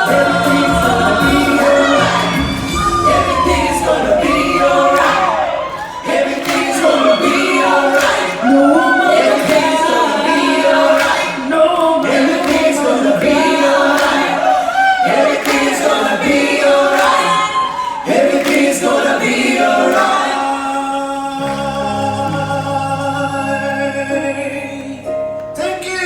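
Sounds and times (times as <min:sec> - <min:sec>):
choir singing: 0:00.0 - 0:24.8.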